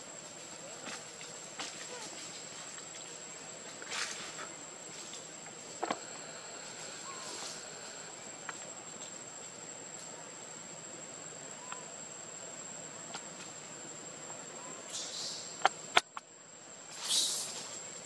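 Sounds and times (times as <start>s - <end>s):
high-pitched insect drone: 0.0s - 16.2s, 16.9s - 18.0s
faint hiss: 0.0s - 18.0s.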